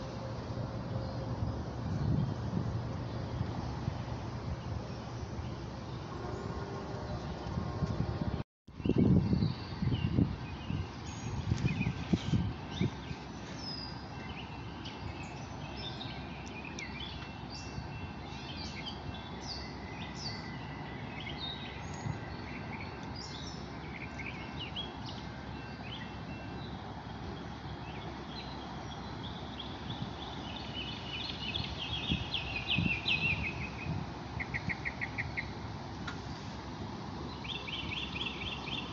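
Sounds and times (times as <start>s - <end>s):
songbirds chirping and singing: 0.8s - 38.9s.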